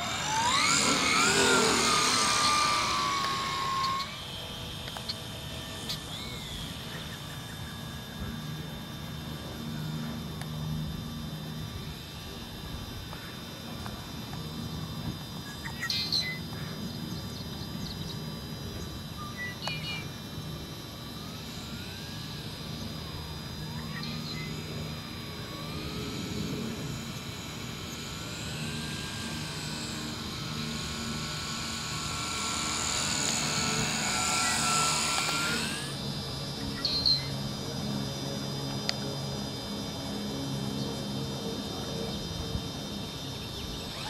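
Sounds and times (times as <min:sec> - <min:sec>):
model airplane motor whining: 0:00.0 - 0:44.0.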